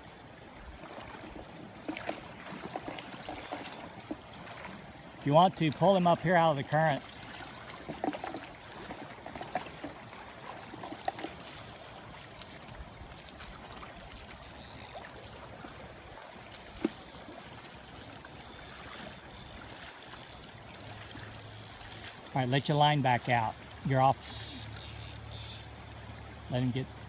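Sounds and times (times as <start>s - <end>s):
small knocks and splashes: 0.0s - 27.0s
stream water flowing: 0.0s - 27.0s.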